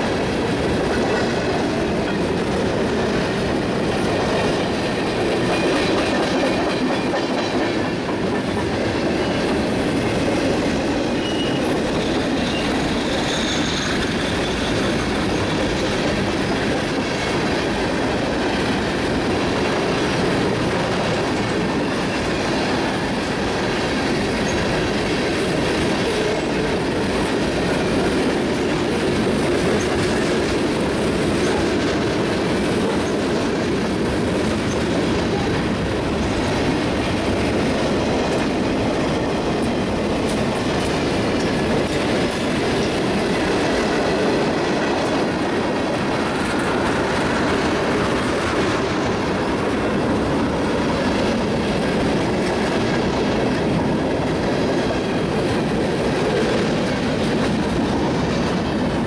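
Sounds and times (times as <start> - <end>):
freight train wheels rolling: 0.0 - 59.0.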